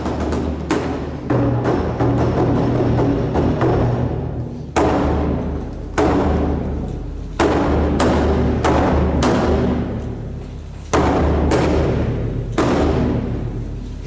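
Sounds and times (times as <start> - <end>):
taiko drums struck: 0.0 - 13.8.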